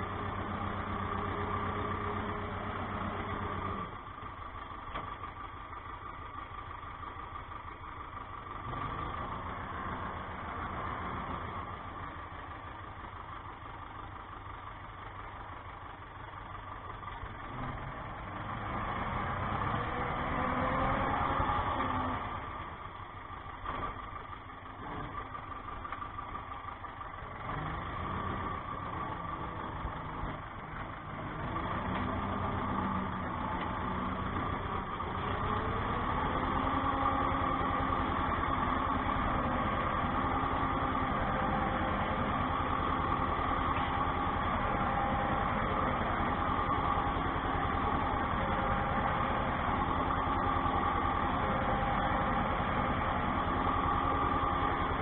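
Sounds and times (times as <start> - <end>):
tractor engine from inside cab: 0.0 - 55.0.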